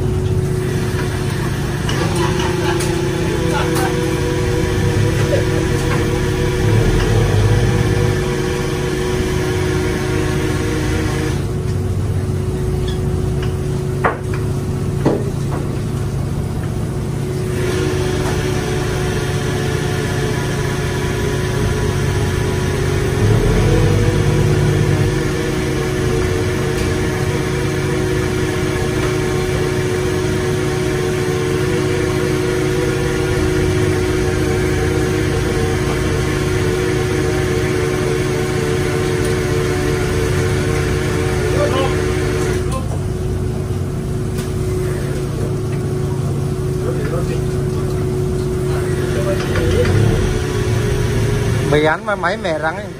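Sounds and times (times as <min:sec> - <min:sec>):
engine rumbling: 0:00.0 - 0:52.9.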